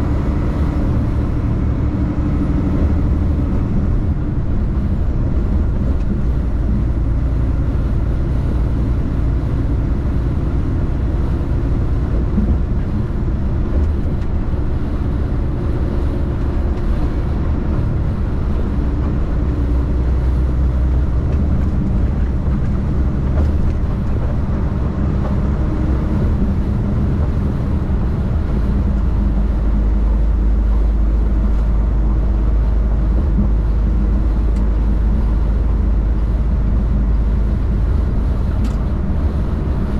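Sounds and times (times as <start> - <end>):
diesel truck engine and road rumble: 0.0 - 39.9.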